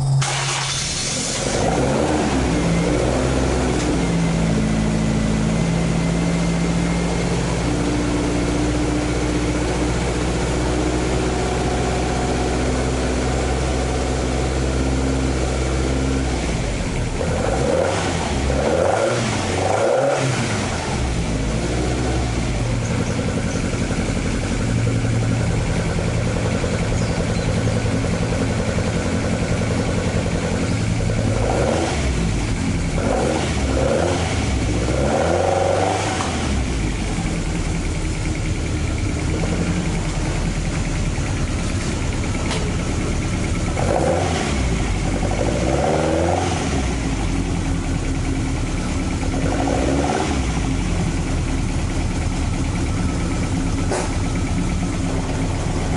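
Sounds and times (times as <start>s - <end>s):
engine revving: 0.0s - 37.5s, 41.9s - 51.5s
car engine idling: 0.0s - 55.9s.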